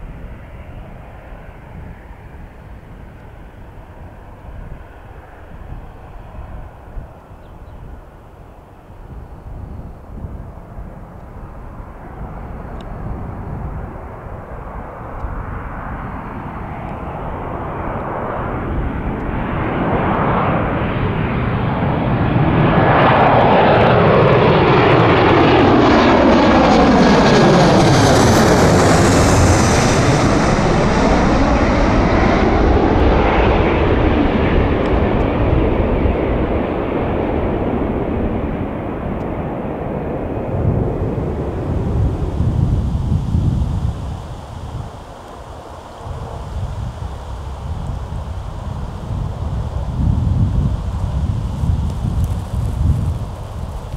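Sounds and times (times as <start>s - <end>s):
jet airliner passing: 0.0s - 53.9s.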